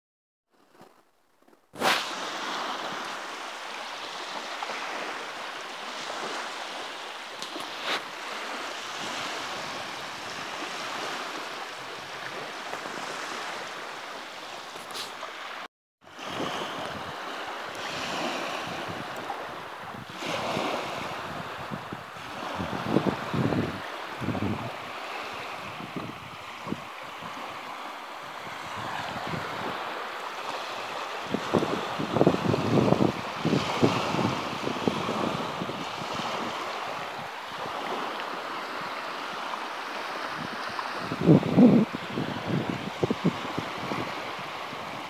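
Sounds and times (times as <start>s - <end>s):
small waves washing onto shore: 0.5s - 45.0s.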